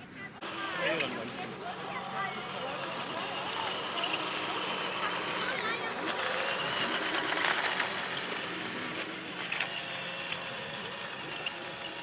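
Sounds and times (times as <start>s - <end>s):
electric motor whirring: 0.4s - 12.0s.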